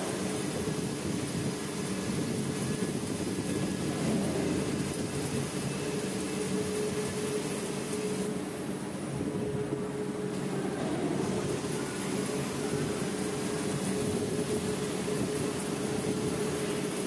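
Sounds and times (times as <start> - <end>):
lathe machine hum: 0.0 - 17.0.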